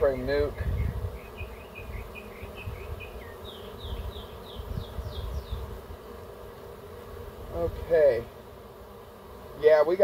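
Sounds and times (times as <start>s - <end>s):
bees humming: 0.0s - 10.0s.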